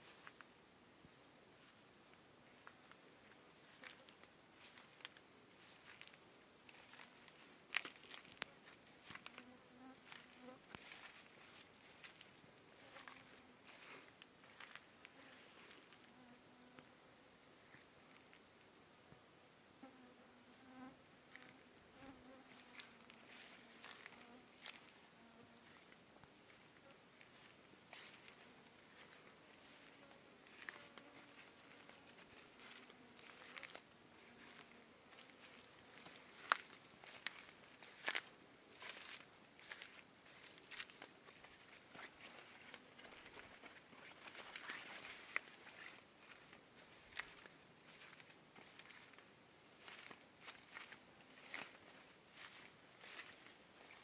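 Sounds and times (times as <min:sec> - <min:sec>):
insect buzzing past: 0:00.0 - 0:54.0
footsteps through vegetation: 0:02.6 - 0:16.0, 0:22.2 - 0:54.0.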